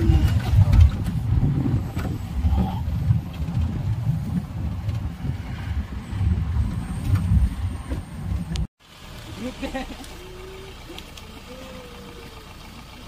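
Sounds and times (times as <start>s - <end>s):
vehicle rumbling on rough road: 0.0s - 13.0s.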